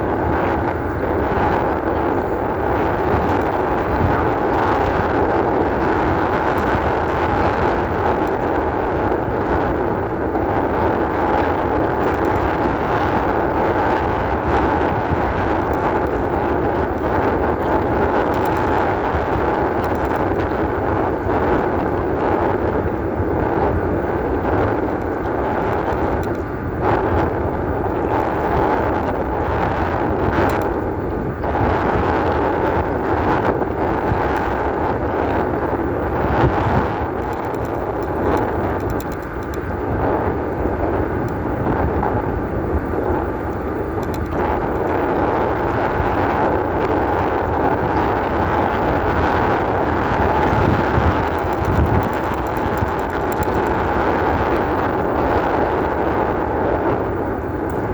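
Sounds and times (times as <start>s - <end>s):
bike jolting on rough trail: 0.0s - 57.9s
wind buffeting microphone: 0.0s - 57.9s.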